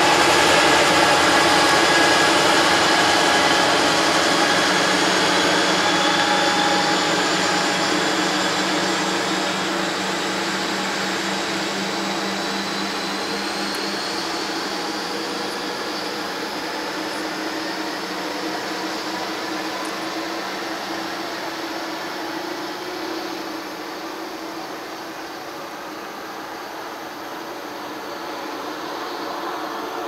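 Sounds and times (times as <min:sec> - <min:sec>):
locomotive engine and fan drone: 0:00.0 - 0:30.0.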